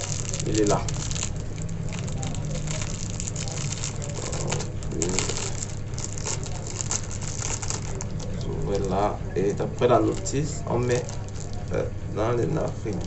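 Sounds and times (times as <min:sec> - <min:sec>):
plastic packaging clicks and crinkling: 0:00.0 - 0:08.9, 0:09.7 - 0:11.7
steady low hum: 0:00.0 - 0:13.0.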